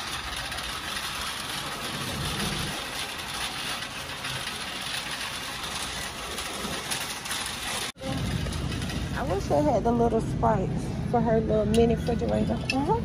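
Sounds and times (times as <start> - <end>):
shopping cart rolling rattle: 0.0 - 13.0.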